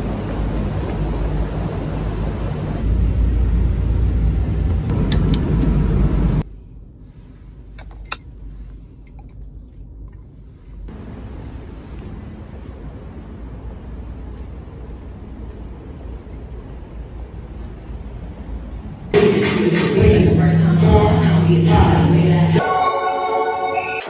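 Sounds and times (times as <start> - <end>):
low rumbling garage ambience: 0.0 - 22.7.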